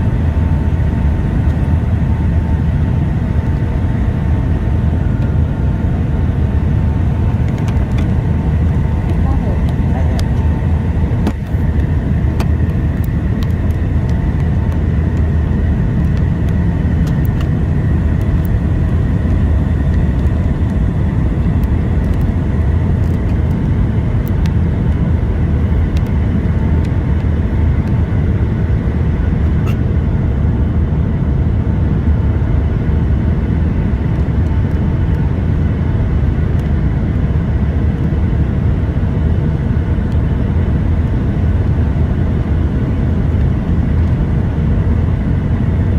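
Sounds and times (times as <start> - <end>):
aircraft cabin rumble: 0.0 - 45.9.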